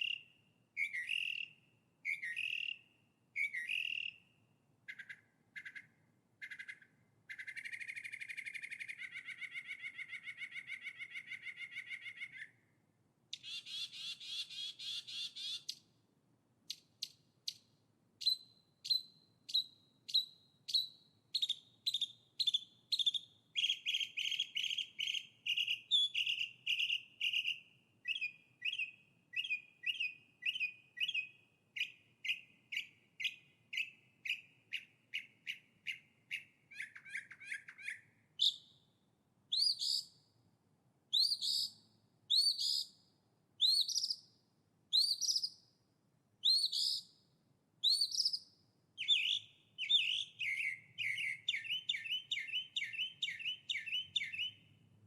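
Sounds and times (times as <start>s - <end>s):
songbird singing: 0.0s - 15.9s, 16.7s - 40.3s, 41.1s - 43.0s, 43.6s - 45.8s, 46.4s - 47.2s, 47.8s - 55.0s.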